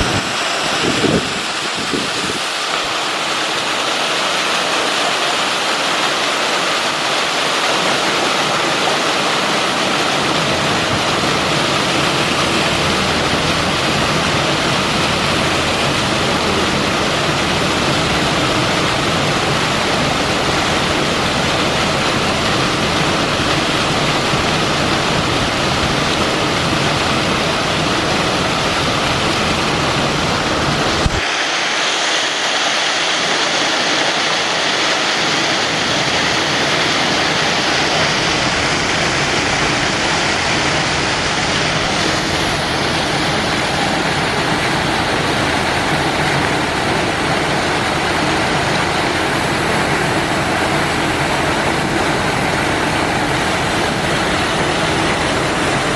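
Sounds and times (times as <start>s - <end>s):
water pouring into pool: 0.0s - 55.9s.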